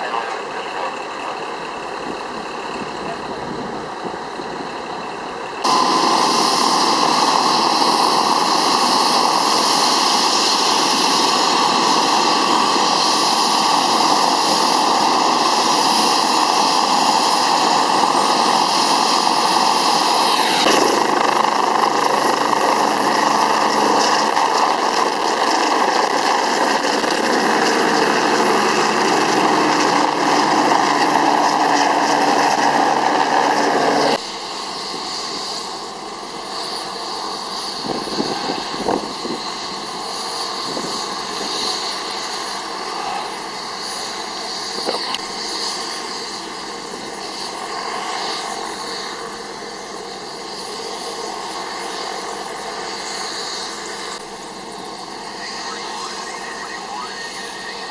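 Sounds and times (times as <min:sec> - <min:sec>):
helicopter engines and rotor: 0:00.0 - 0:57.9.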